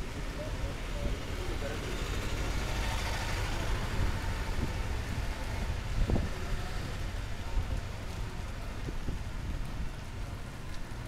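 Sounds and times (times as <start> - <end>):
road traffic rumble: 0.0 - 11.0
steady rain: 0.0 - 11.0.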